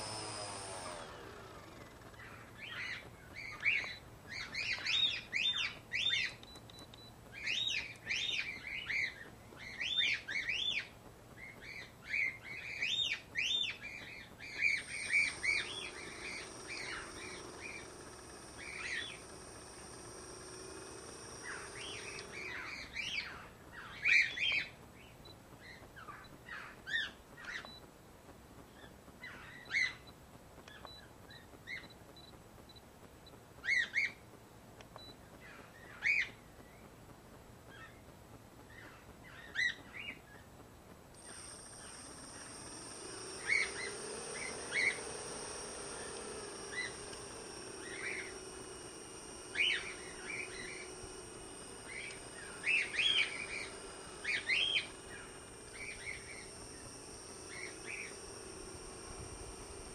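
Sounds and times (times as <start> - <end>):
electric motors whining: 0.0 - 27.9, 28.6 - 40.4, 41.0 - 59.9
small birds chirping: 0.0 - 59.9.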